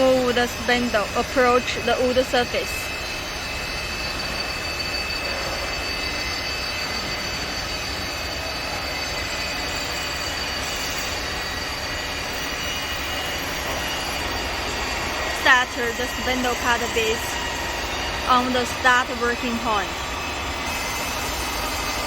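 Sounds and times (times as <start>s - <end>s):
wood lathe machine hum and whine: 0.0s - 22.0s.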